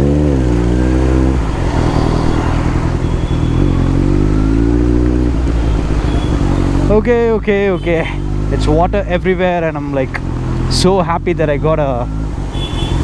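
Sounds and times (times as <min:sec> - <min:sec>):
motorcycle engine revving: 0:00.0 - 0:13.0
tyres on wet road: 0:00.0 - 0:13.0.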